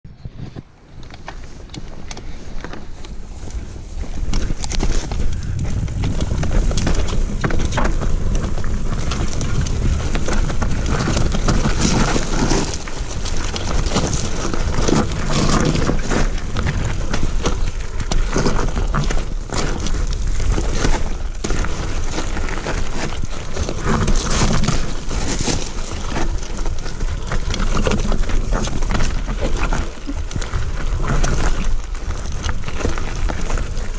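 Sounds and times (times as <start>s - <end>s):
wind buffeting microphone: 0.1s - 33.9s
tyres crunching over stones: 0.9s - 33.9s
bike chain and frame rattling: 4.2s - 33.9s.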